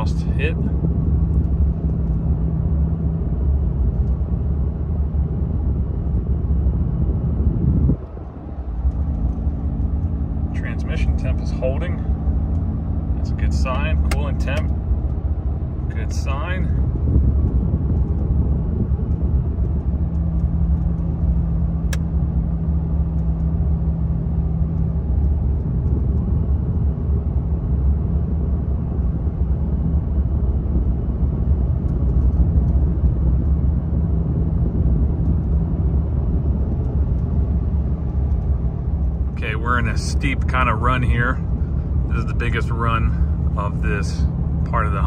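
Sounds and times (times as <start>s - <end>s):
faint steady hum: 0.0s - 45.0s
truck engine drone and road rumble: 0.0s - 45.0s.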